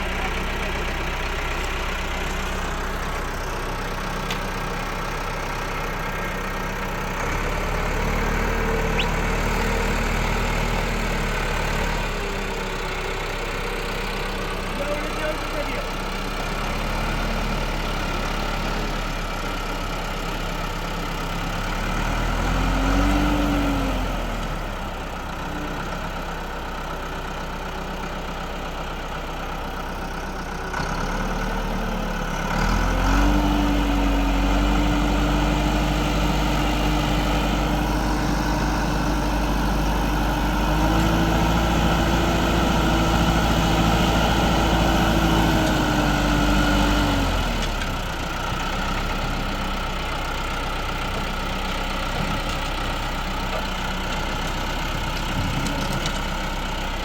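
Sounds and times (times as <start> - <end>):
tractor engine revving: 0.0 - 28.0, 28.7 - 57.0.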